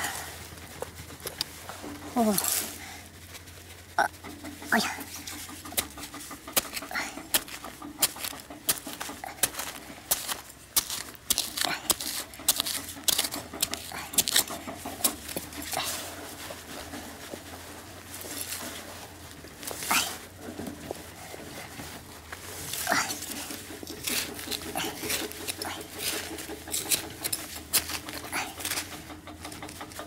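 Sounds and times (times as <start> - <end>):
metal trowel scraping soil: 0.0 - 30.0.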